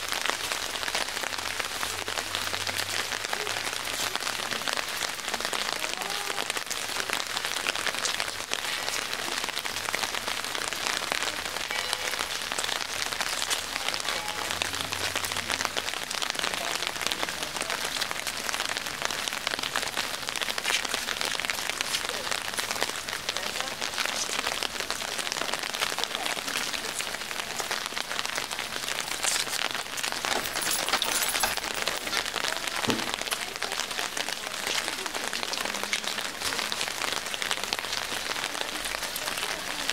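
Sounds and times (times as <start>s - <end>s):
close raindrop hits: 0.0s - 39.9s
steady rain falling: 0.0s - 39.9s.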